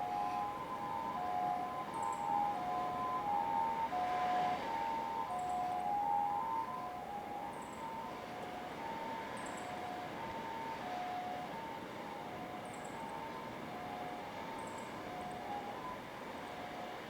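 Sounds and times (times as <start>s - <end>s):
two-tone ambulance siren: 0.0s - 17.0s.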